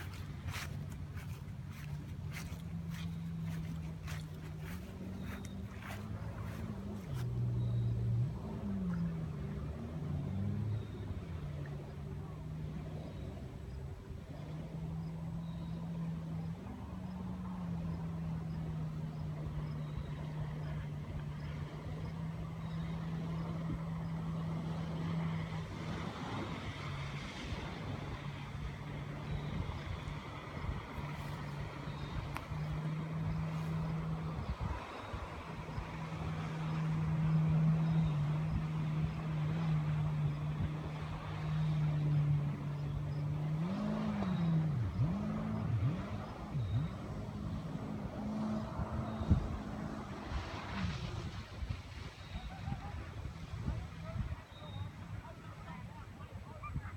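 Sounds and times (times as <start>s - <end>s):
boat motor running: 0.0s - 56.9s.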